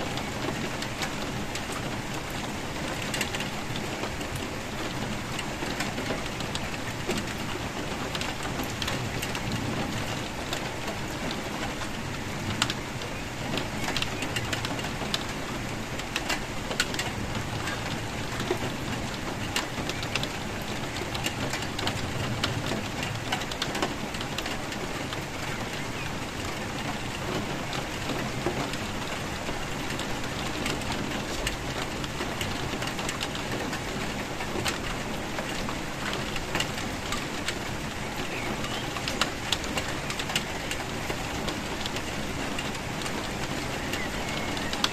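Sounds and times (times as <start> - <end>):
rain pattering on hard surface: 0.0 - 44.9.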